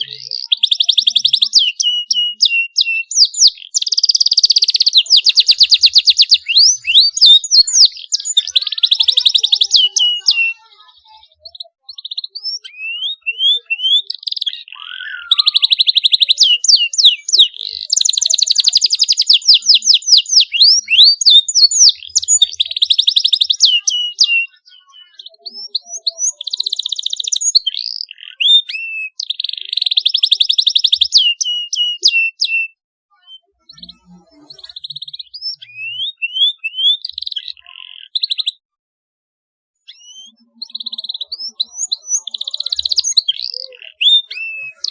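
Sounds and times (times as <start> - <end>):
canary singing: 0.0 - 38.7, 39.8 - 44.9.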